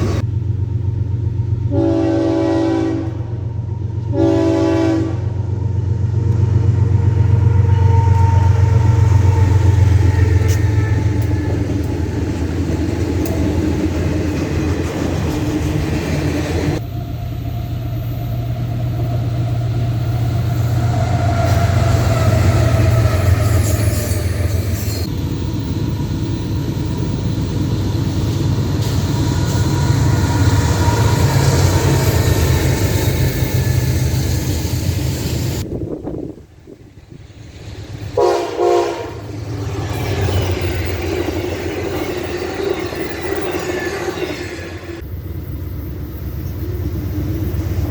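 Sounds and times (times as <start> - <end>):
locomotive engine rumble: 0.0 - 47.9
wheel and rail noise: 5.3 - 47.9.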